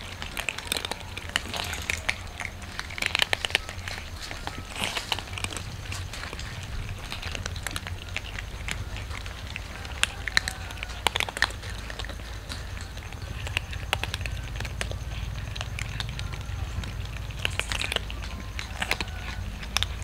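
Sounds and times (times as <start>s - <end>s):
cats crunching dry kibble: 0.0s - 20.0s.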